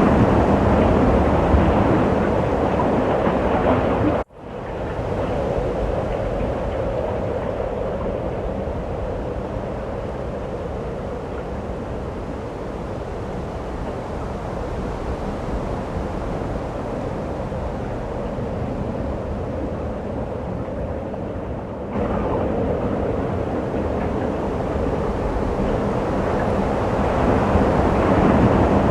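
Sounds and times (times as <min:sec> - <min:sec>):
rushing snowstorm wind: 0:00.0 - 0:28.9.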